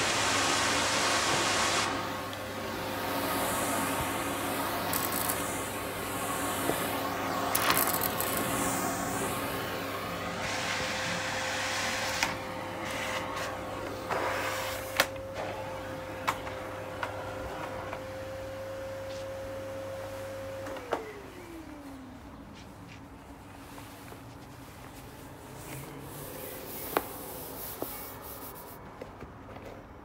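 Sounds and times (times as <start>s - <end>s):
vacuum cleaner running: 0.0s - 24.1s, 25.4s - 28.6s.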